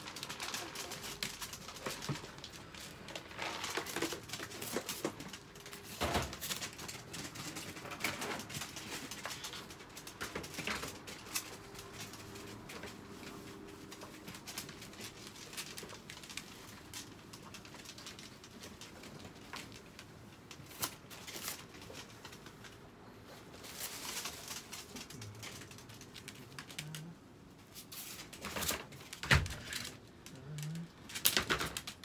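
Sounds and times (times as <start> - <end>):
clicks and rustles of paws and wire: 0.0 - 32.0.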